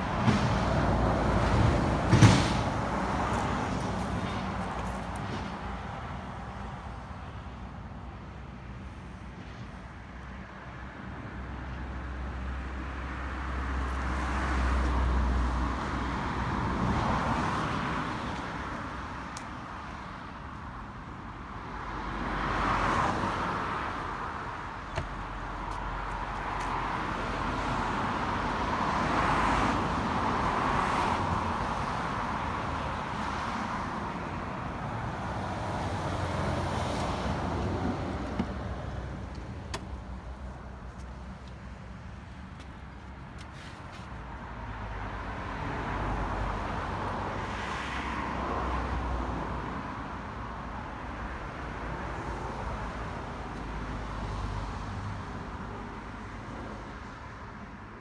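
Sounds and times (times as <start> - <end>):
cars passing: 0.0 - 58.0.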